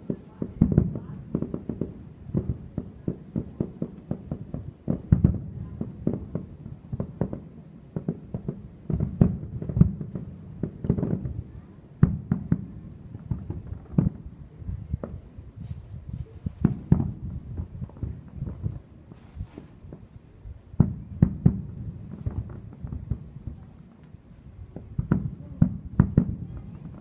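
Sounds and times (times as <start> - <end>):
loud firework bangs: 0.0 - 14.2, 15.0 - 20.1, 20.8 - 23.8, 24.7 - 27.0
distant fireworks bangs and pops: 0.0 - 27.0.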